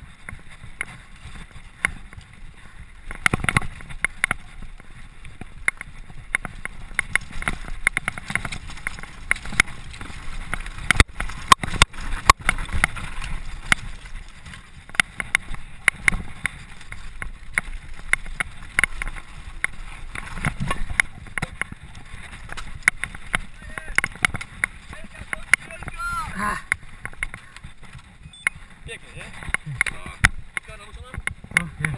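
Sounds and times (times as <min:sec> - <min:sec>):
bike rattling and knocking: 0:00.0 - 0:31.9
low rumble of tyres: 0:00.0 - 0:31.9.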